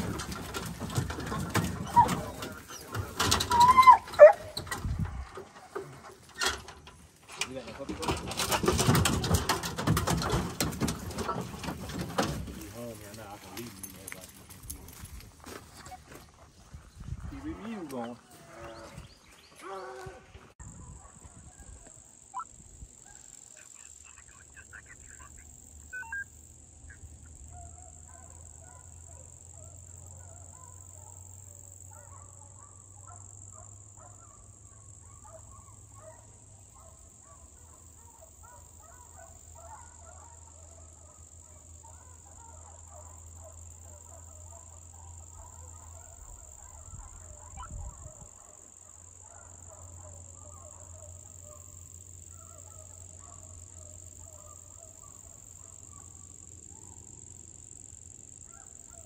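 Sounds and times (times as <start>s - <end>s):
distant hounds baying: 0.0s - 59.0s.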